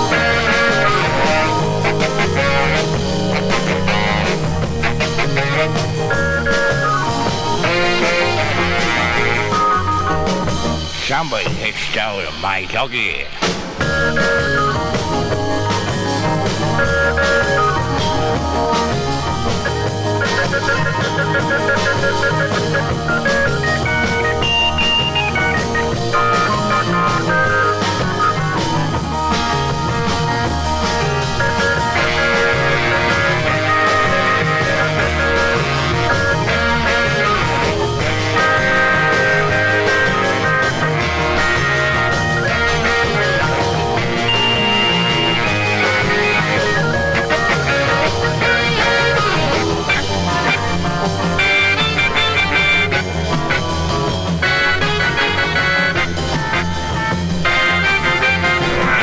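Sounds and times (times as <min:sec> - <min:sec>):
bass line: 0:00.0 - 0:59.0
instrumental band with guitar: 0:00.0 - 0:59.0.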